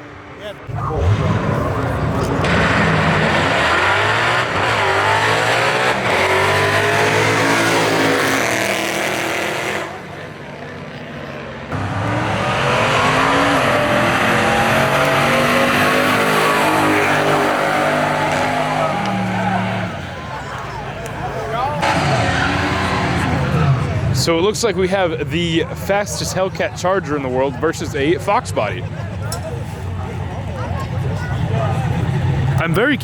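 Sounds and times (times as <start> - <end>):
drag cars accelerating: 0.0 - 33.0.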